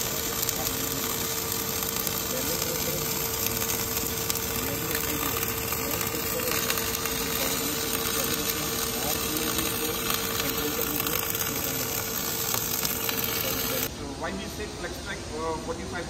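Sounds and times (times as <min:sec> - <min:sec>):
welding arc crackling and hissing: 0:00.0 - 0:13.9
steady hum: 0:00.0 - 0:16.0.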